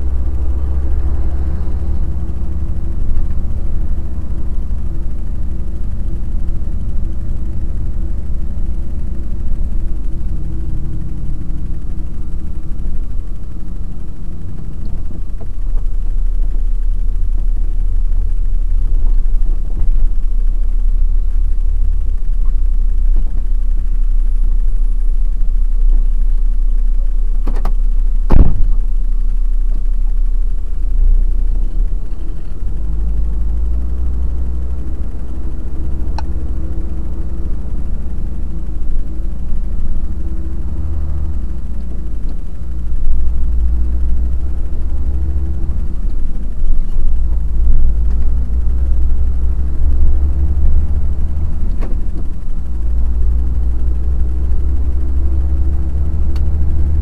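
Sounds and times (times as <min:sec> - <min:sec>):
road rumble: 0:00.0 - 0:57.0
truck engine: 0:00.0 - 0:57.0.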